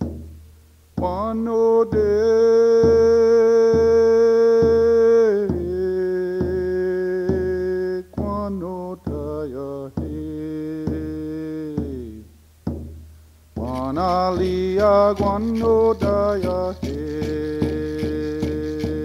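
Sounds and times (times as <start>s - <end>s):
steady drum beat: 0.0s - 19.0s
person singing long notes: 1.0s - 12.3s, 13.6s - 19.0s.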